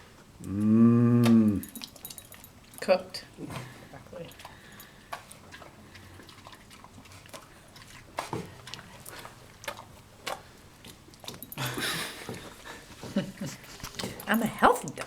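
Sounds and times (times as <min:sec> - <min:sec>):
dog chewing: 0:01.6 - 0:15.0.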